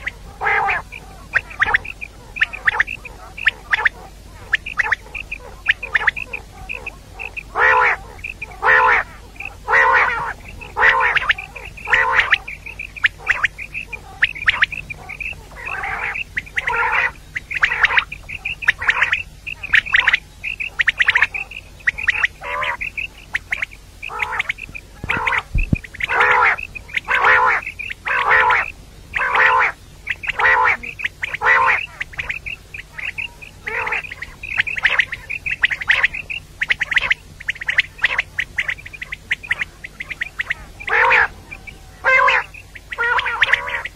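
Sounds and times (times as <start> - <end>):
high chirps: 0.0 - 43.9
quail calling: 0.0 - 43.9.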